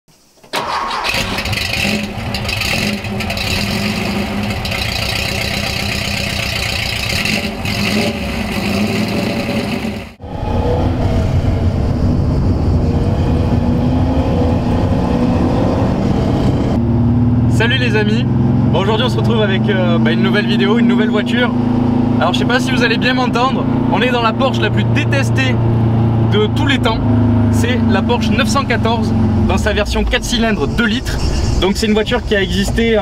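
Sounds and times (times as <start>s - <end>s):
car engine revving: 0.6s - 33.0s.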